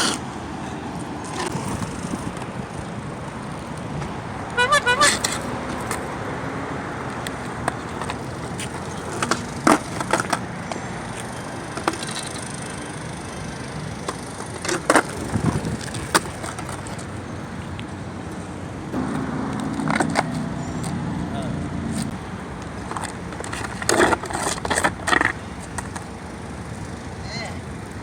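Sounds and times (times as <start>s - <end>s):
skateboard clacking on pavement: 0.0s - 21.0s, 22.0s - 27.0s.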